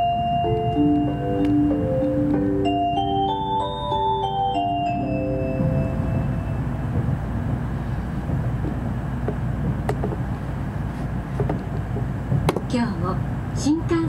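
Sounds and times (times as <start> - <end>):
train cabin low rumble: 0.0 - 14.0.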